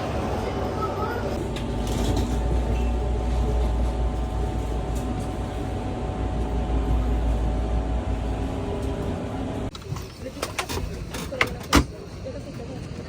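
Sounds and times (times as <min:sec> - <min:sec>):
aircraft cabin rumble and hum: 0:00.4 - 0:13.0.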